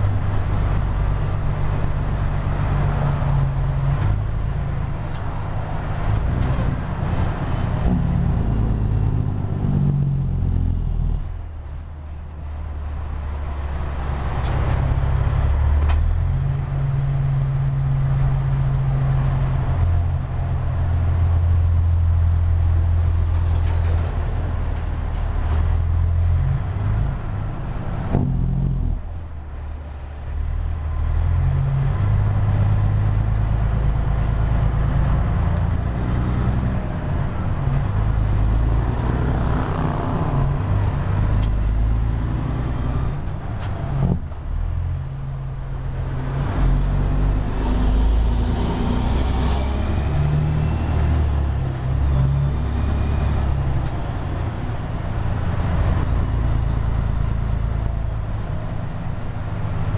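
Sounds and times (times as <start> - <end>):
truck diesel engine shifting gears: 0.0 - 59.9.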